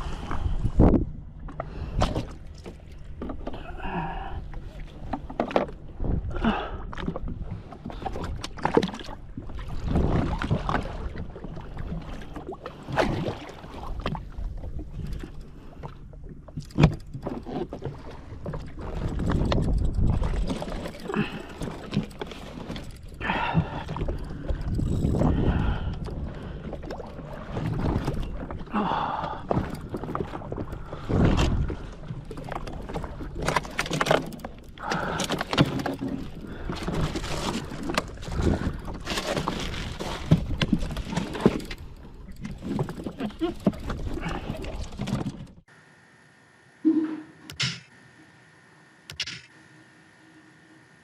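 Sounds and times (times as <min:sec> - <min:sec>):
water splashing against hull: 0:00.0 - 0:45.7.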